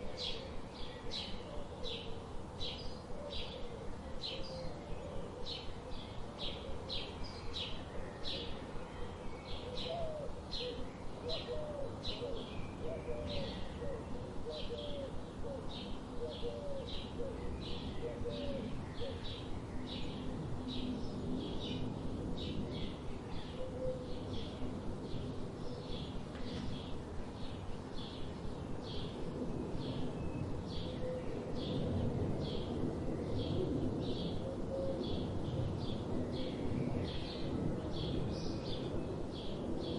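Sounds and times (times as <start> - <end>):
outdoor background noise: 0.0 - 39.9.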